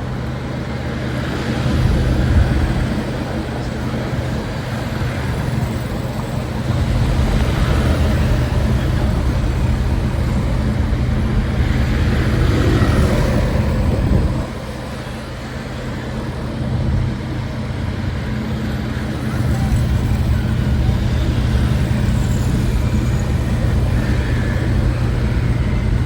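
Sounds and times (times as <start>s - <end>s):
road noise: 0.0s - 26.0s
vehicle engine running: 0.0s - 26.0s.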